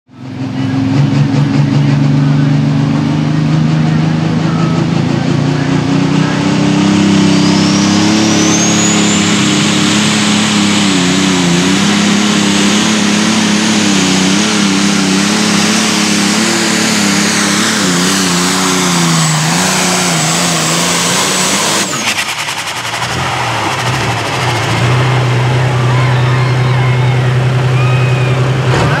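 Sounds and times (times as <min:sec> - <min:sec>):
diesel engine running under load: 0:00.1 - 0:29.0
high turbo whine: 0:00.1 - 0:29.0.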